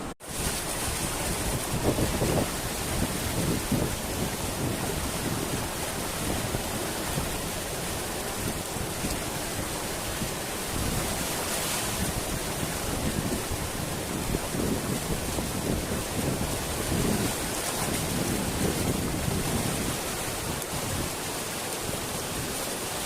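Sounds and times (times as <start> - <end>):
mountain river rushing: 0.0 - 23.0.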